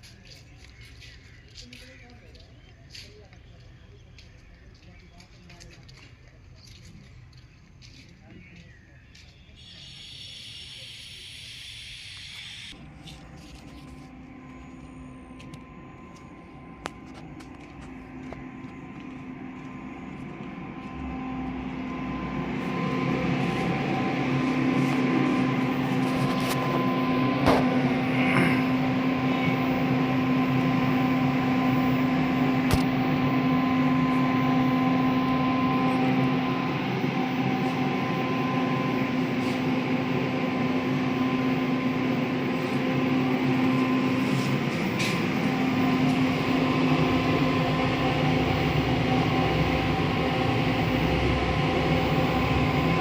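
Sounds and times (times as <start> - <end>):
machine hum with steady tones: 0.0 - 53.0.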